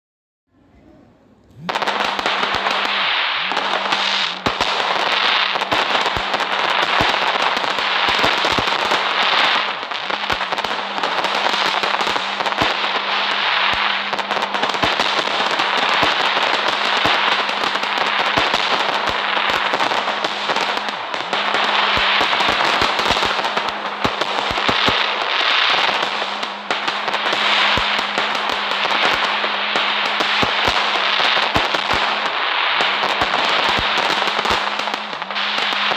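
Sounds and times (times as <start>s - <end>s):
fireworks crackling and popping: 1.5s - 35.9s.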